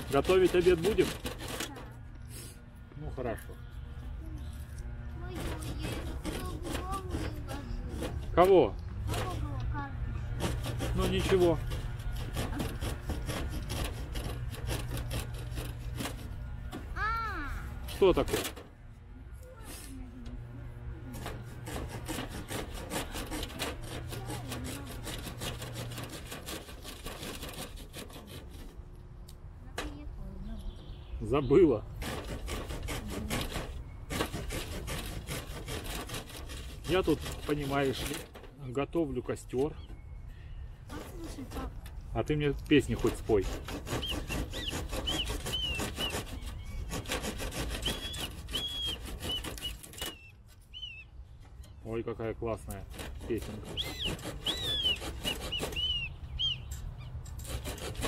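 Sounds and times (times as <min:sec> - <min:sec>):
small saw blade sawing wood: 0:00.0 - 0:29.9, 0:31.5 - 0:39.9, 0:40.8 - 0:51.0, 0:51.6 - 0:58.0.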